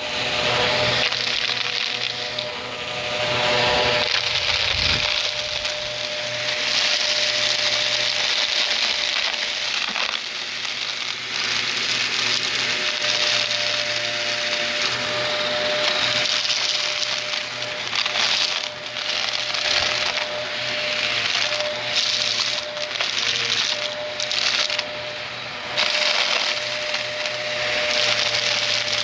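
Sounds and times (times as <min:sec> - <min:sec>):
debris crackling in vacuum: 0:00.0 - 0:29.0
vacuum cleaner running: 0:00.0 - 0:29.0.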